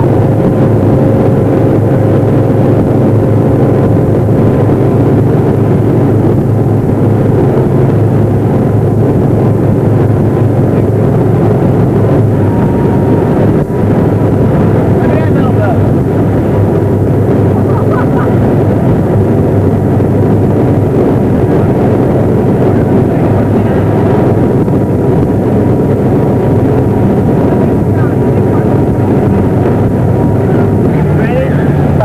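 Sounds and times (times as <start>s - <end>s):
boat engine running: 0.0s - 32.0s
wind buffeting microphone: 0.0s - 32.0s.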